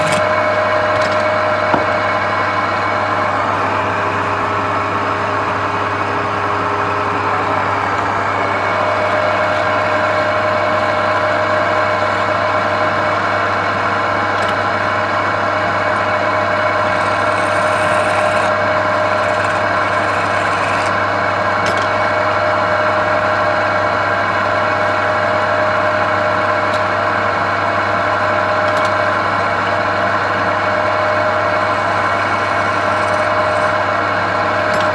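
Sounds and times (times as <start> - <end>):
woodturning lathe motor humming: 0.0 - 34.9.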